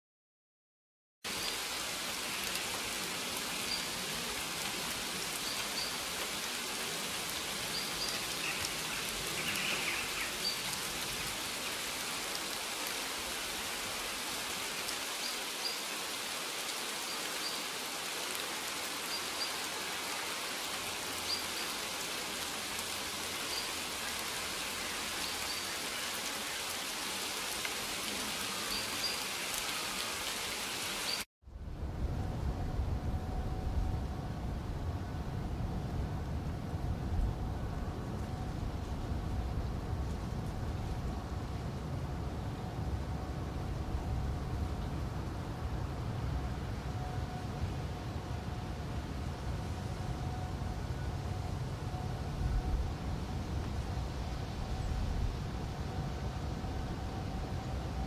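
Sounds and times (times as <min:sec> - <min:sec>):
steady rainfall: 0:01.3 - 0:58.0.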